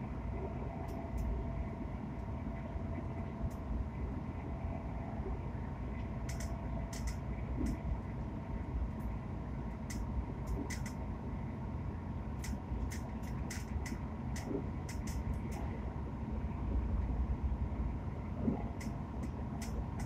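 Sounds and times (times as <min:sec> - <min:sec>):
train coach rumble and hum: 0:00.0 - 0:20.0.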